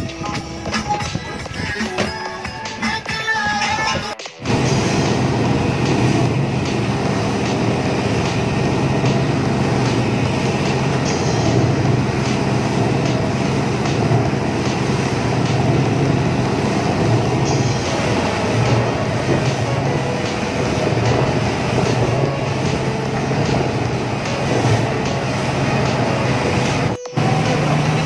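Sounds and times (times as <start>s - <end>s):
churning wake water rushing: 0.0s - 28.0s
outboard motors droning: 4.4s - 28.0s.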